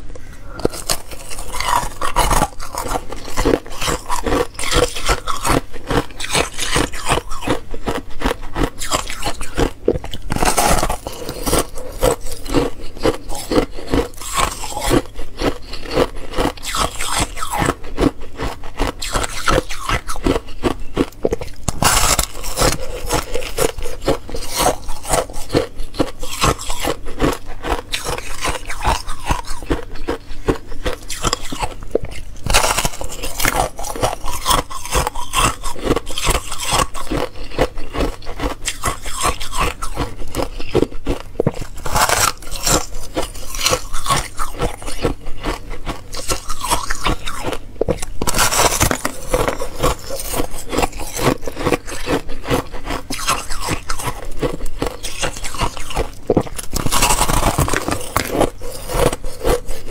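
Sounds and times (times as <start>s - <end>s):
ice crunching between teeth: 0.0s - 59.9s.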